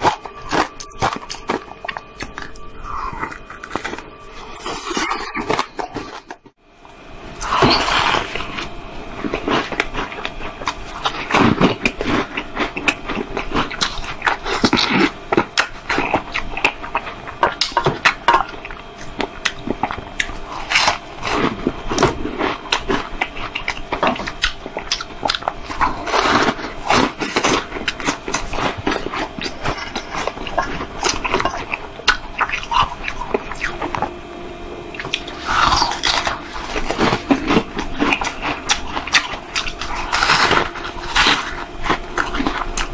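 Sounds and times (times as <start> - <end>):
ice crunching being chewed: 0.0 - 6.5, 7.4 - 34.2, 34.9 - 42.9.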